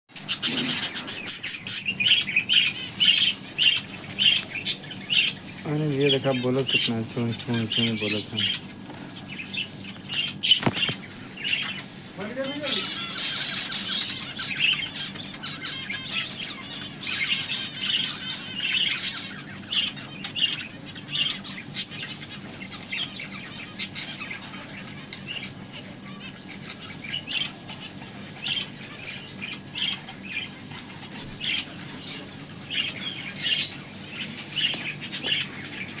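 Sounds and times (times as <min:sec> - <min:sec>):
small birds chirping: 0:00.1 - 0:36.0.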